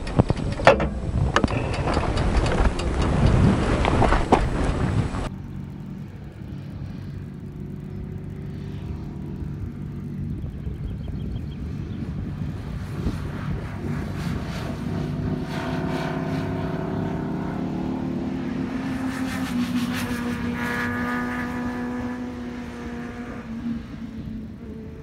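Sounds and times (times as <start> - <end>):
engine crackling: 0.0 - 25.0
motorcycle engine running: 0.0 - 25.0.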